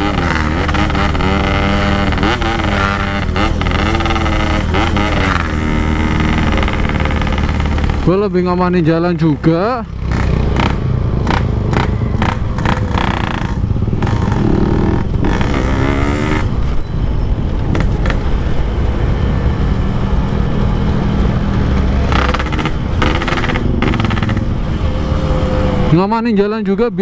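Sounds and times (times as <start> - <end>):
motorcycle engine running: 0.0 - 16.8, 19.9 - 25.8.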